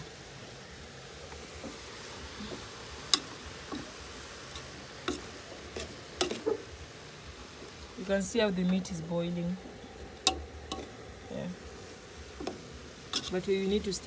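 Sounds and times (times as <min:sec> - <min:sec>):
faint cooking hiss: 0:00.0 - 0:14.0.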